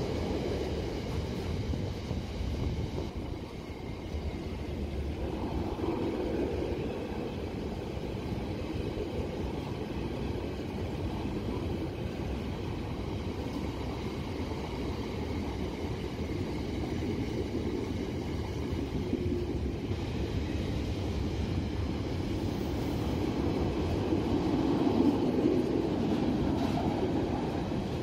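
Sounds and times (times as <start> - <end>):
electric train rumble and hum: 0.0 - 28.0.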